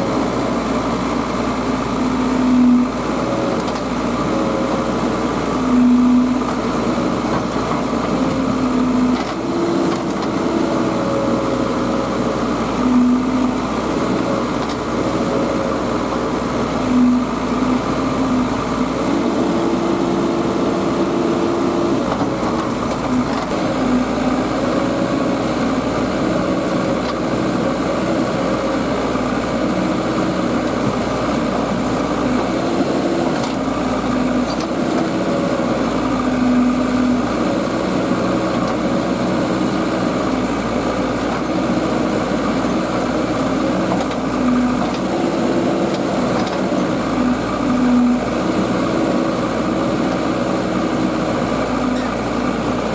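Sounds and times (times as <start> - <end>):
diesel engines working: 0.0 - 52.9.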